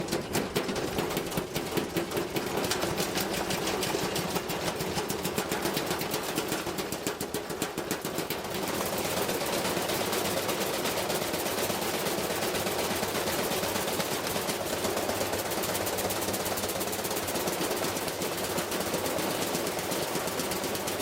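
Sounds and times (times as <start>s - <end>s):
washing machine clattering: 0.0s - 21.0s.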